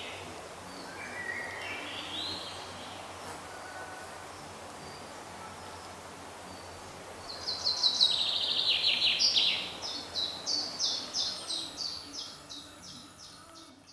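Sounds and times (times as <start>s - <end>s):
songbird singing: 0.0s - 13.9s.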